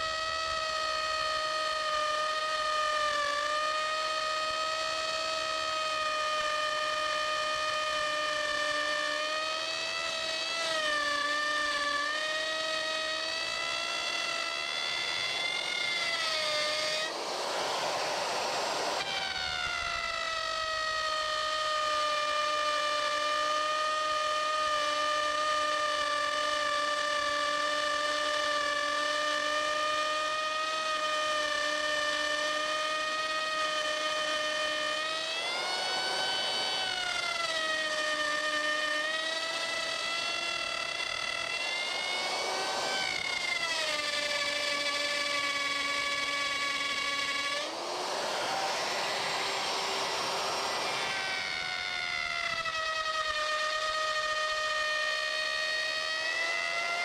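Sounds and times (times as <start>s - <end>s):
electric router high whine: 0.0s - 57.0s
router bit cutting wood: 0.0s - 57.0s.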